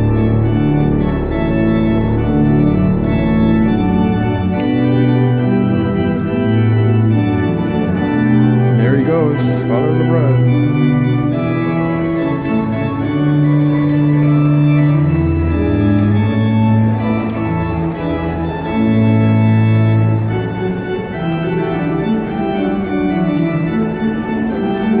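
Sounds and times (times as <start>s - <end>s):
organ playing chords: 0.0s - 25.0s.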